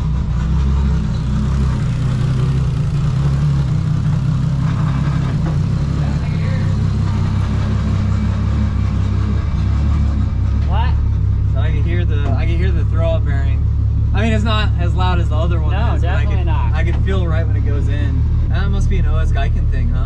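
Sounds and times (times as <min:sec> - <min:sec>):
turbocharged car engine idling: 0:00.0 - 0:20.0.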